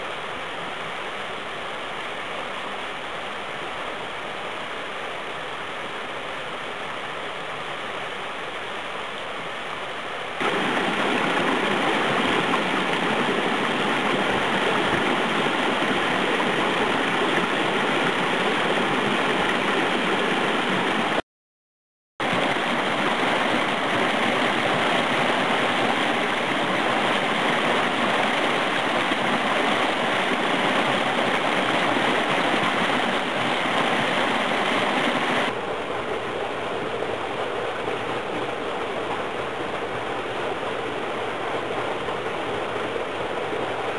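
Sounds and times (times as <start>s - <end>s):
stream water splashing over rocks: 0.0s - 21.2s, 22.2s - 43.9s.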